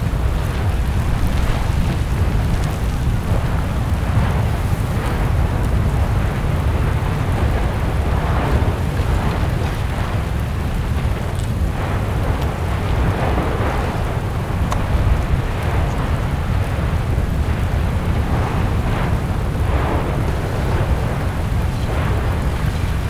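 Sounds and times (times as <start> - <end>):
lava churning surges: 0.0 - 23.0
volcanic vent rumbling: 0.0 - 23.0.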